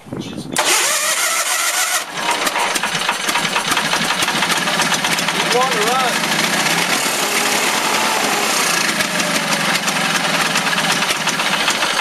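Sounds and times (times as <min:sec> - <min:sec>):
lawn tractor engine running: 0:00.6 - 0:12.0.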